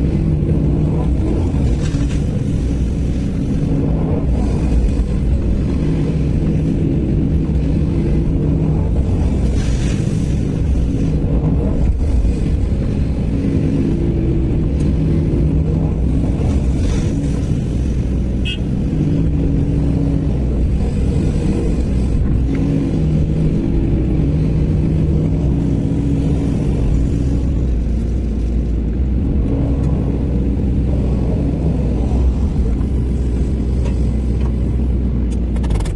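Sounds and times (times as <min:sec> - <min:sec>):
excavator diesel engine: 0:00.0 - 0:35.9.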